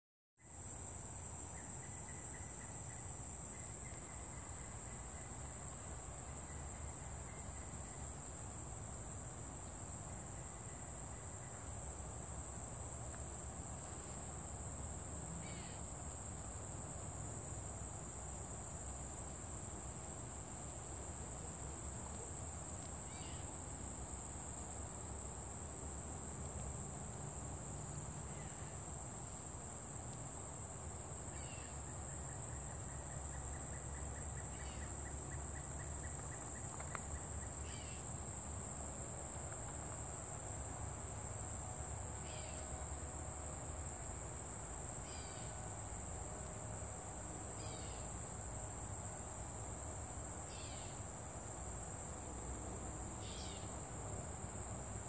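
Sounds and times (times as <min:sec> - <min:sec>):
insects buzzing: 0:00.4 - 0:55.0.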